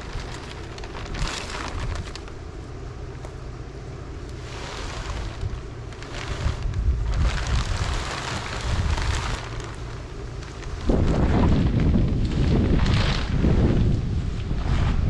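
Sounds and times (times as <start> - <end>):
wind buffeting microphone: 0.0 - 2.6, 4.4 - 15.0.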